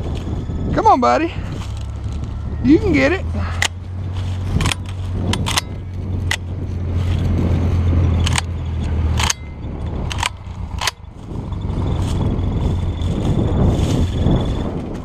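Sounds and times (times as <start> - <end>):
dry corn stalks crunching underfoot: 0.0 - 9.2, 10.0 - 15.0
low steady rumble: 0.0 - 15.0.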